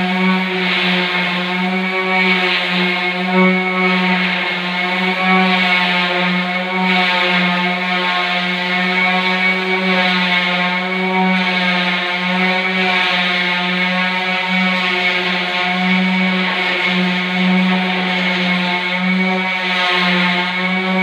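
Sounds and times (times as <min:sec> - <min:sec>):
orbital sander humming: 0:00.0 - 0:21.0.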